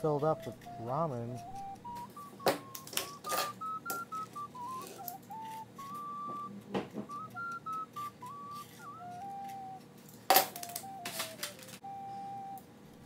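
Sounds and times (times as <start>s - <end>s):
electronic beeping tune: 0.0s - 9.8s, 10.5s - 12.6s.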